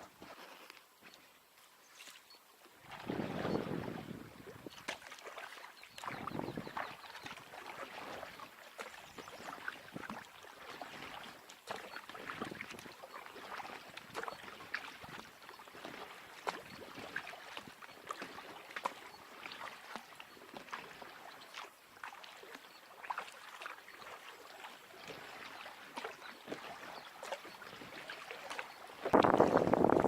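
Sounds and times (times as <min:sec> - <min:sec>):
water splashing from paddling: 0:02.0 - 0:30.0
drips from paddle blades: 0:04.6 - 0:29.4.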